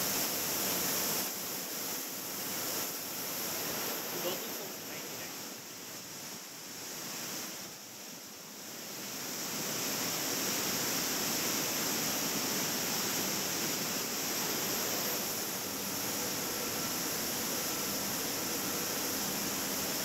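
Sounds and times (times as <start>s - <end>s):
ship wake churning: 0.0s - 20.0s.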